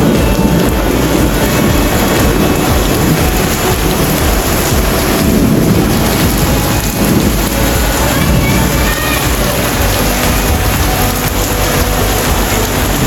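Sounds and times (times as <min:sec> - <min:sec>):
heavy rain: 0:00.0 - 0:13.0
wind gusting over microphone: 0:00.0 - 0:13.0.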